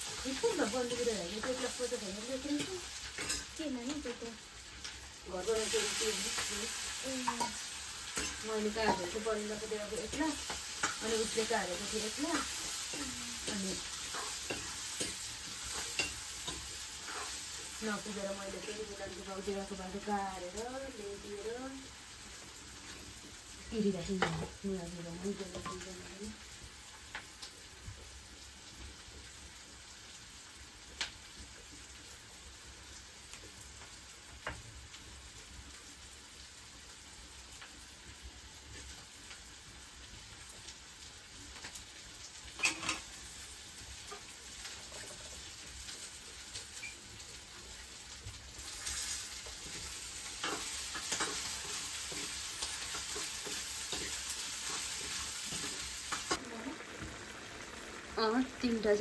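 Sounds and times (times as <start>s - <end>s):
curry sizzling in a pot: 0.0s - 59.0s.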